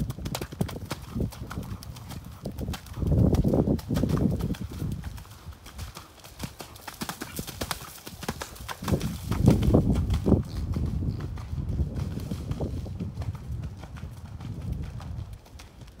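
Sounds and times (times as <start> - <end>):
horse hoofbeats trotting on sand: 0.0 - 16.0.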